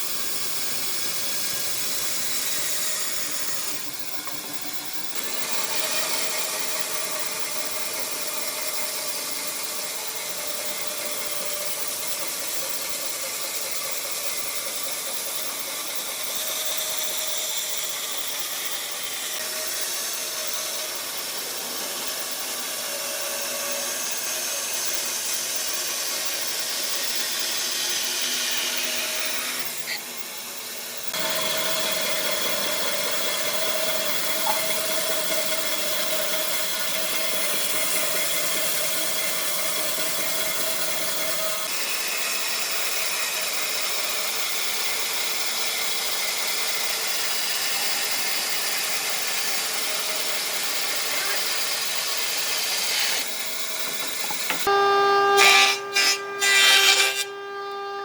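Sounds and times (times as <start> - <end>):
power tool cutting wood: 0.0 - 58.0.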